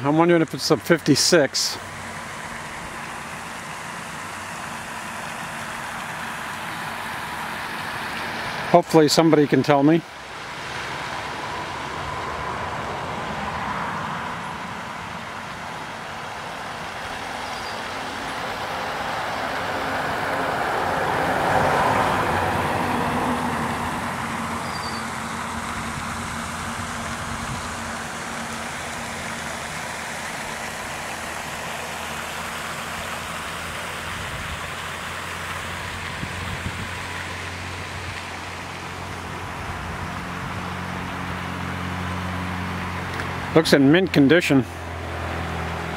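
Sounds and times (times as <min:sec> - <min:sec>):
steady traffic noise: 0:00.0 - 0:45.9
vehicle passing: 0:00.0 - 0:45.9.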